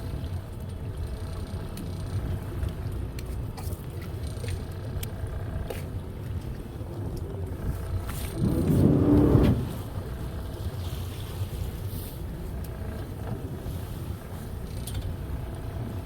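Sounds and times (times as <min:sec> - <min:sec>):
boat engine low rumble: 0:00.0 - 0:16.0.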